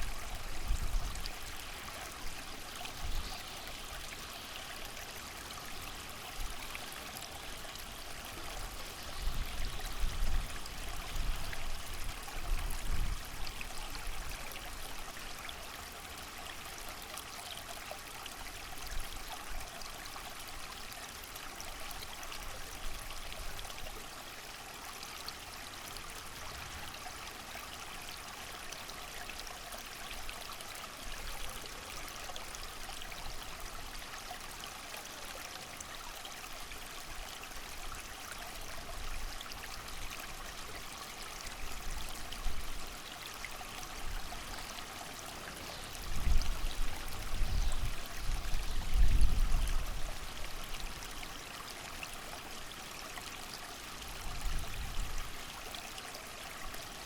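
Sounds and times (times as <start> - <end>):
creek running: 0.0 - 57.0.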